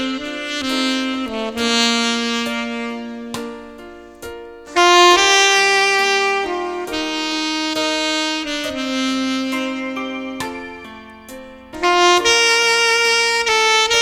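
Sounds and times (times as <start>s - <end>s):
saxophone playing slow melody: 0.0s - 14.0s.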